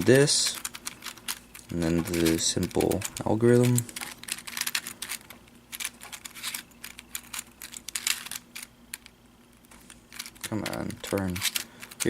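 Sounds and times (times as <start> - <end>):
plastic puzzle clicks and scrapes: 0.0 - 12.0.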